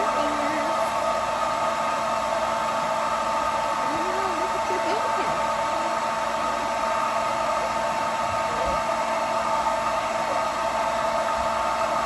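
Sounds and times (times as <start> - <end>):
hair dryer running with whine: 0.0 - 12.0.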